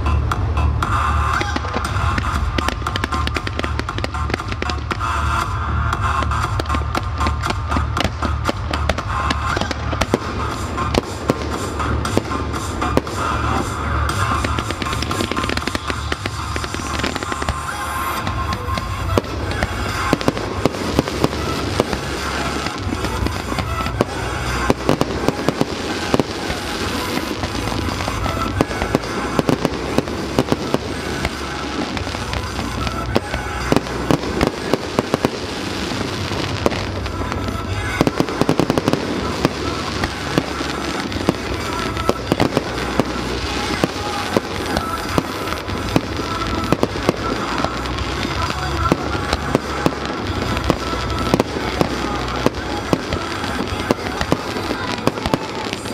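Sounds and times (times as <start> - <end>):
fireworks bangs and crackles: 0.0 - 55.9
music playing: 0.0 - 55.9.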